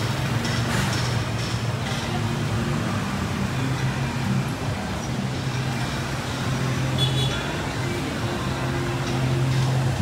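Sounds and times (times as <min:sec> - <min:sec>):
cars and motorbikes passing: 0:00.0 - 0:10.0.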